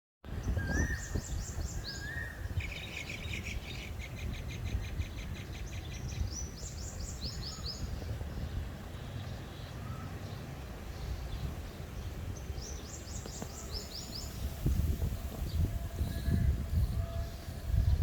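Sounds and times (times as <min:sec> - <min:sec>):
birds chirping: 0:00.4 - 0:18.0.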